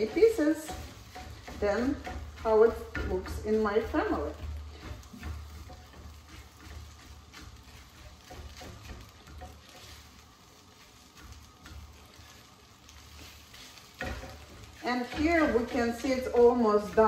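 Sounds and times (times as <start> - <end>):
food frying faint sizzle: 0.0 - 17.0
spatula scraping and tapping: 0.0 - 17.0.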